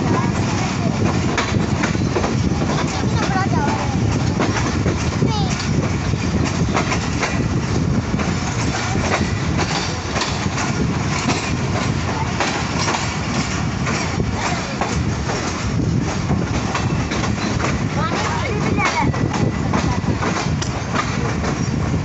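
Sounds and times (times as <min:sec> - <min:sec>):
rumble of wheels on rail: 0:00.0 - 0:22.0
wheels clacking over rail joints: 0:00.0 - 0:22.0.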